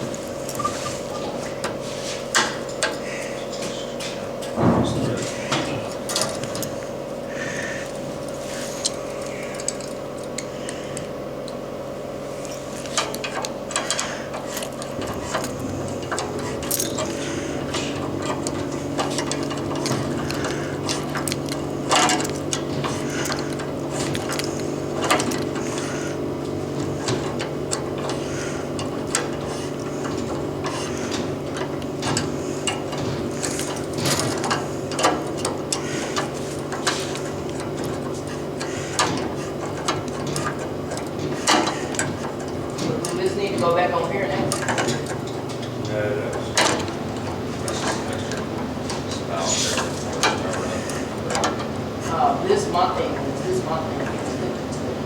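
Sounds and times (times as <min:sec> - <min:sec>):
steady machine hum: 0:00.0 - 0:55.0
hand tools clicking and clinking: 0:05.2 - 0:11.6, 0:12.4 - 0:54.9.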